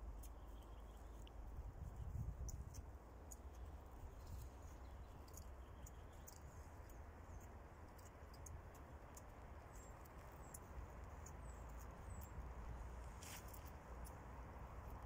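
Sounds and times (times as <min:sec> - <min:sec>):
small birds chirping: 0:00.0 - 0:15.0
faint high ticks: 0:00.1 - 0:12.5.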